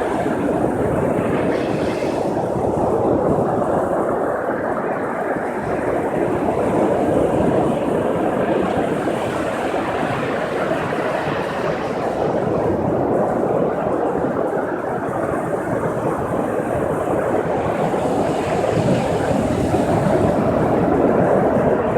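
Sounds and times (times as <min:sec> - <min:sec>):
ocean surf: 0:00.0 - 0:21.9
wind: 0:00.0 - 0:21.9.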